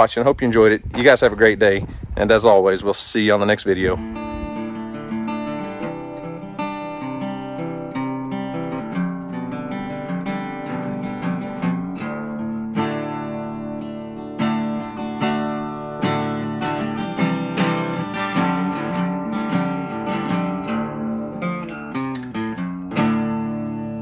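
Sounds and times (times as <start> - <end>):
acoustic guitar music: 3.4 - 24.0.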